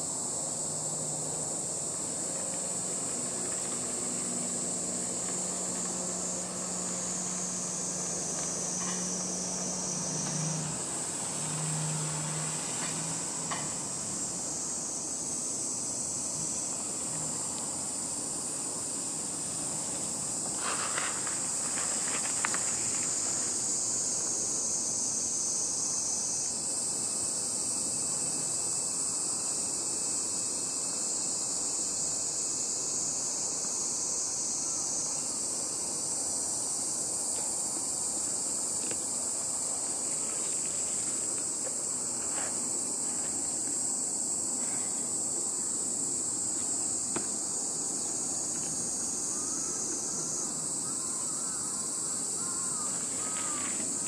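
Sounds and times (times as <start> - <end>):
insects singing: 0.0 - 54.0.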